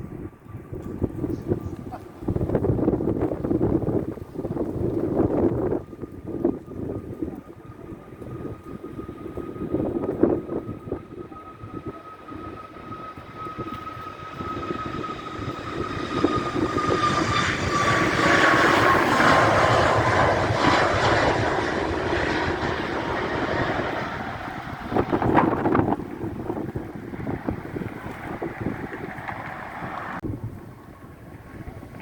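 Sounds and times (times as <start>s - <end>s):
jet engine whine: 0.0s - 32.0s
wind buffeting microphone: 0.0s - 32.0s.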